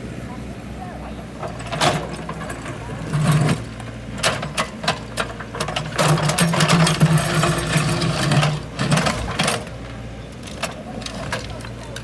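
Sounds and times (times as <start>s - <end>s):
excavator engine droning: 1.0s - 12.0s
clanks and rattling: 1.3s - 12.0s.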